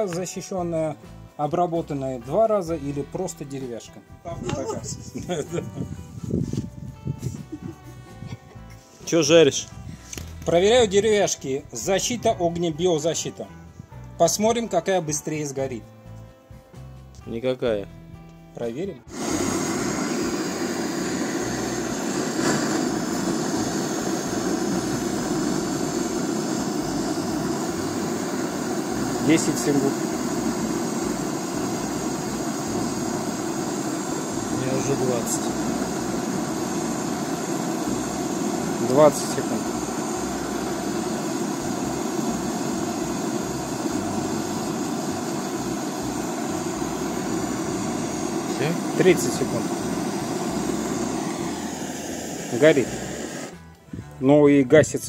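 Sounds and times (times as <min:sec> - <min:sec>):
gas torch hissing: 0:01.6 - 0:14.7, 0:18.8 - 0:54.8.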